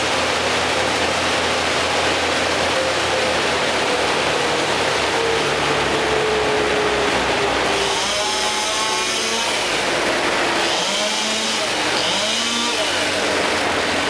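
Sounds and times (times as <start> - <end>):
engine-driven machinery: 0.0 - 14.0.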